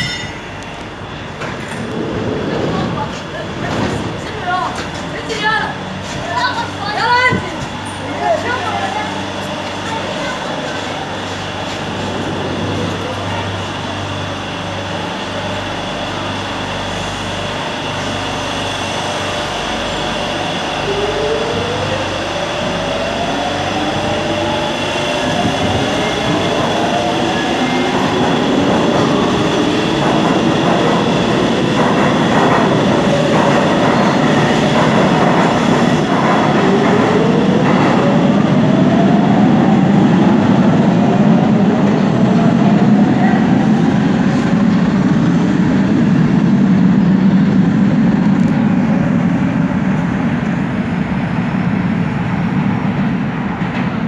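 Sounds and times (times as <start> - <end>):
train rumble: 0.0 - 54.0
train traction motor whine: 6.8 - 51.0.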